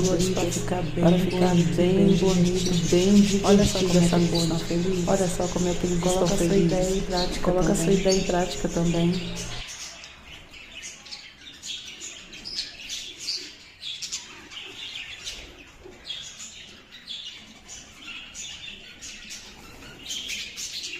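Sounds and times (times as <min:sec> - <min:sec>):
budgerigars chirping: 0:00.0 - 0:20.9.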